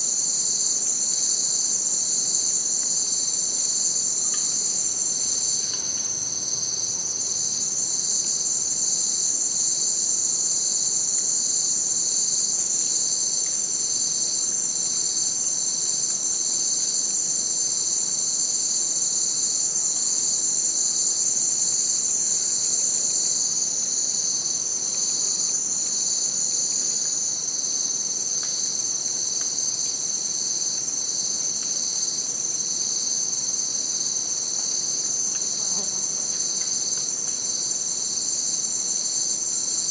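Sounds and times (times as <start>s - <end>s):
pulsing insect calls: 0.0s - 32.4s, 33.0s - 39.9s
insects trilling: 0.0s - 39.9s.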